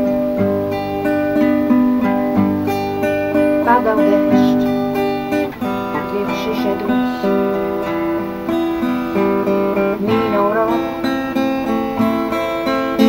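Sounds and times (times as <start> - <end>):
acoustic guitar ballad: 0.0 - 13.0.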